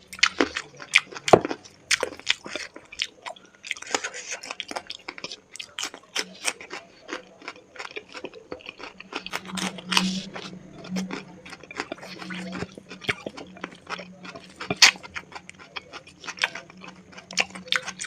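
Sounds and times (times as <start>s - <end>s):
chewing and crunching food: 0.0s - 18.0s
low steady hum: 0.0s - 18.0s.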